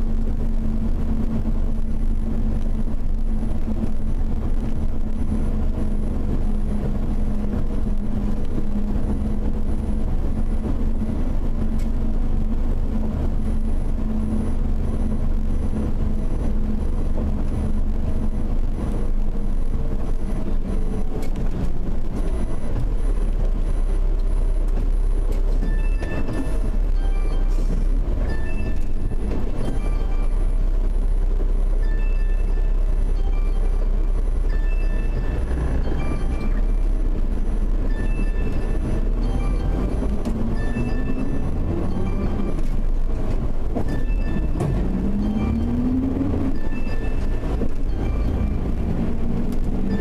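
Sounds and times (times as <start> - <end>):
car engine drone: 0.0 - 50.0
road noise: 0.0 - 50.0.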